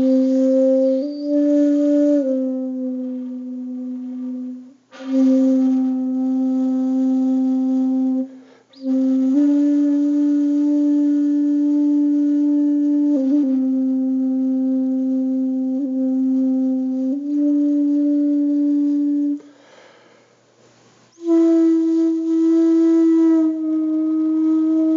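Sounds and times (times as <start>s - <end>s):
slow music of long held notes: 0.0s - 19.5s, 21.1s - 24.9s.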